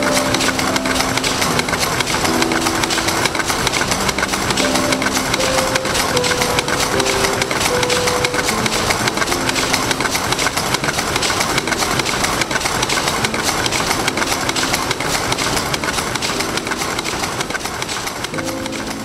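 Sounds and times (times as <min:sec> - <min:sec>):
soft low music notes: 0:00.0 - 0:17.7
machinery clattering: 0:00.0 - 0:19.0.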